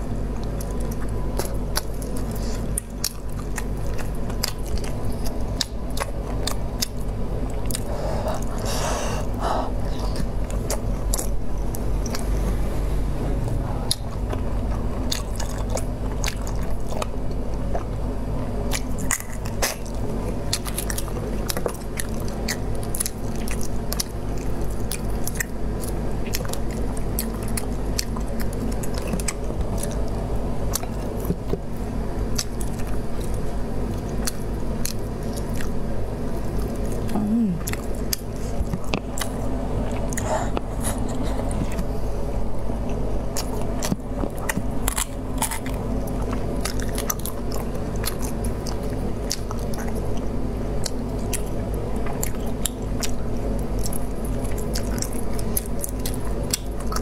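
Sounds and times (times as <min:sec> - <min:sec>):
wet chewing with mouth clicks: 0:00.0 - 0:12.6, 0:13.4 - 0:57.0
steady low hum: 0:00.0 - 0:57.0.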